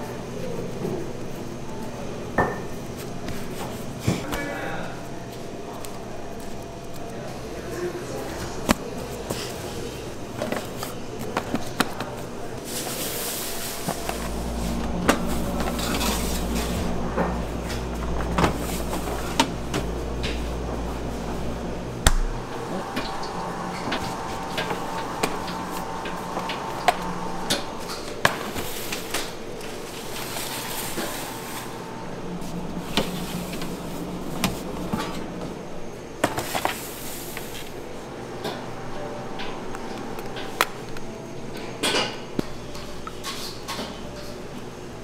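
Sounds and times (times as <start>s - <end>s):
low machine hum: 0.0s - 45.0s.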